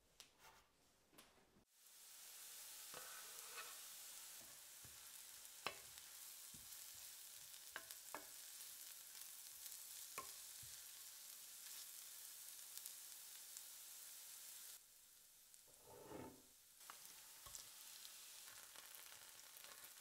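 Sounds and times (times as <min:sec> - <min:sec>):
leeks sizzling in oil: 0:01.7 - 0:20.0.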